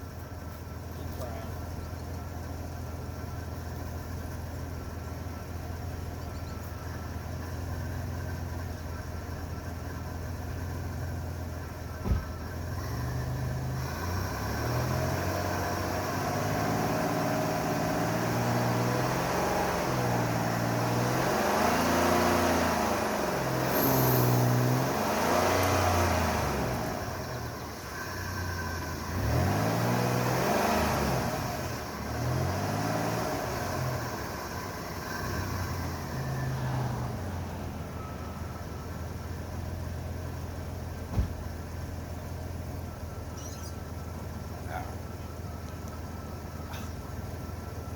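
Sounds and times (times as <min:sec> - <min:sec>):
van engine revving: 0:00.0 - 0:47.9.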